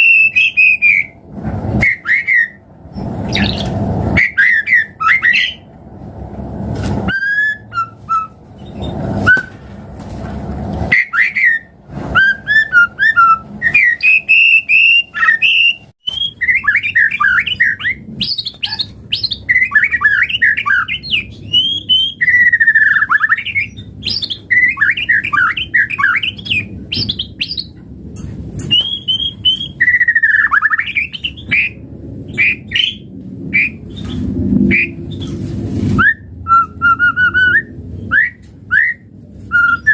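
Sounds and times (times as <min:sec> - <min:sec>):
bird singing whistles and warbles: 0:00.0 - 0:01.2, 0:01.8 - 0:05.7, 0:07.1 - 0:09.6, 0:10.9 - 0:27.8, 0:28.6 - 0:35.4, 0:36.0 - 0:39.9.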